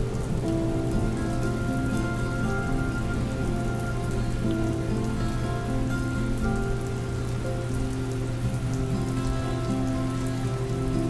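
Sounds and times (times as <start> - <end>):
slow soft instrumental music: 0.0 - 11.0
steady rain falling: 0.0 - 11.0.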